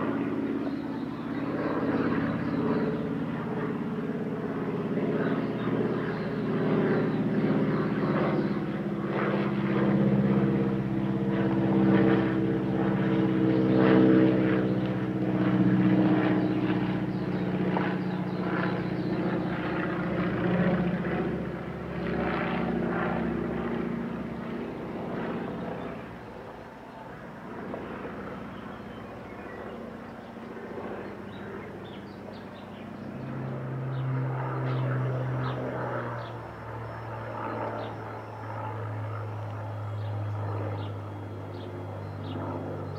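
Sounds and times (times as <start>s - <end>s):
propeller plane droning overhead: 0.0s - 42.9s.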